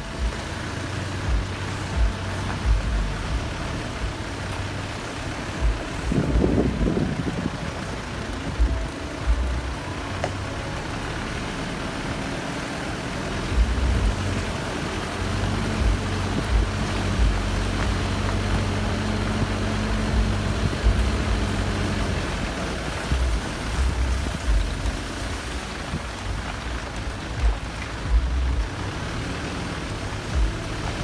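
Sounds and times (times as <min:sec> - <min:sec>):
car engine hum: 0:00.0 - 0:31.0.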